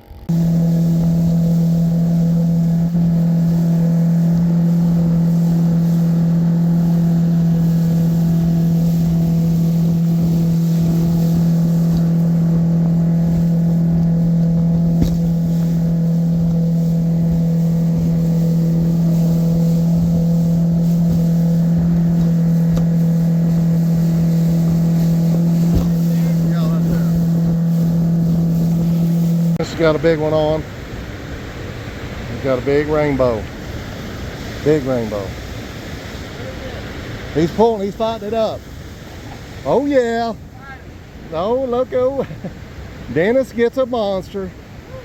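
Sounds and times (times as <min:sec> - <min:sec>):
boat motor running: 0:00.0 - 0:43.3.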